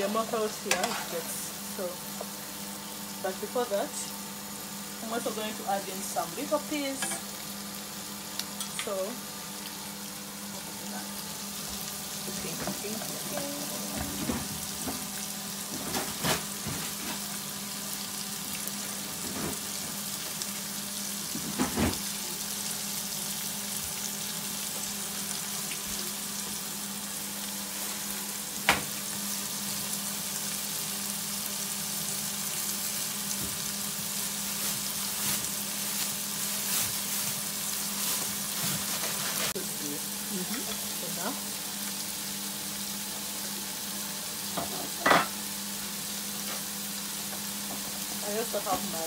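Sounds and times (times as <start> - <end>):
food sizzling in a frying pan: 0.0 - 49.0.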